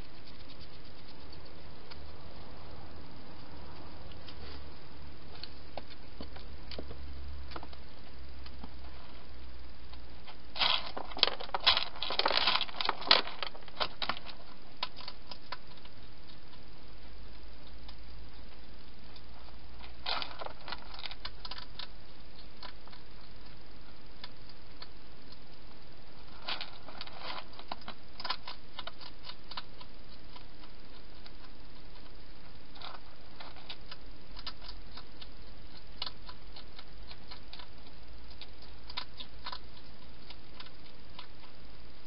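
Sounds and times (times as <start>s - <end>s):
hedgehog crunching dry food: 0.0s - 2.5s, 5.3s - 42.0s.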